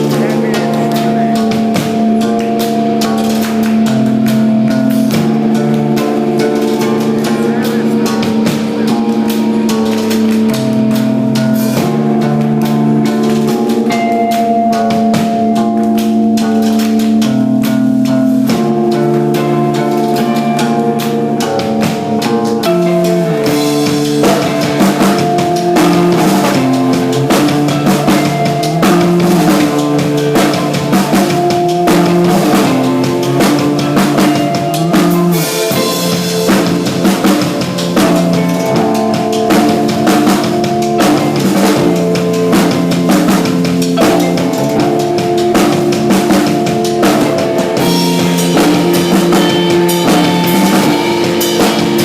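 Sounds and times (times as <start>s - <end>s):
drum kit: 0.0s - 52.0s
live rock band playing: 0.0s - 52.0s.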